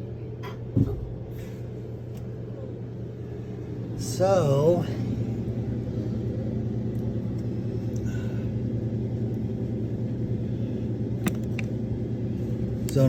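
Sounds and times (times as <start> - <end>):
air conditioner fan humming: 0.0 - 13.0.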